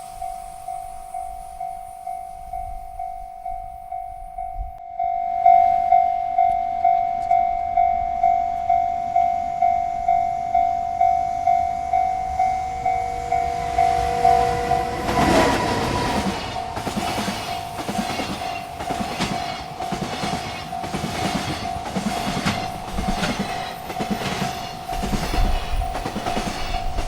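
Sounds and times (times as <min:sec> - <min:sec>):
freight train rumble and rail noise: 0:00.0 - 0:27.0
railroad crossing bell ringing: 0:00.0 - 0:27.0.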